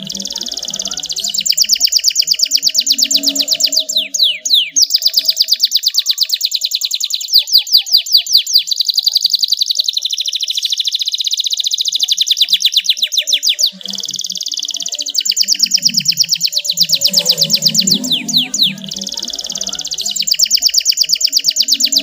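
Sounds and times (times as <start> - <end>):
canary singing trill: 0.0 - 22.0.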